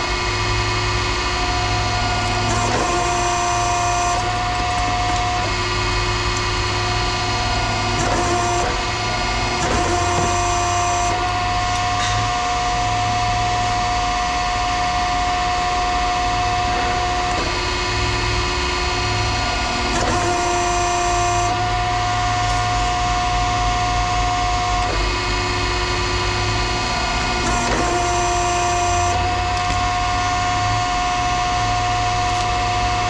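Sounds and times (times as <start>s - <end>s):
power tool whining: 0.0s - 33.0s.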